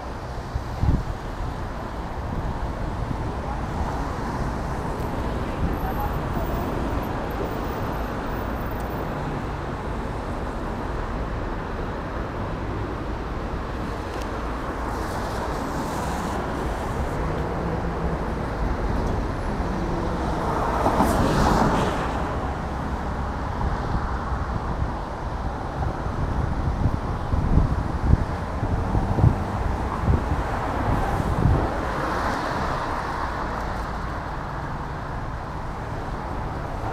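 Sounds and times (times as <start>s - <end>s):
rumble of passing cars: 0.0s - 36.9s.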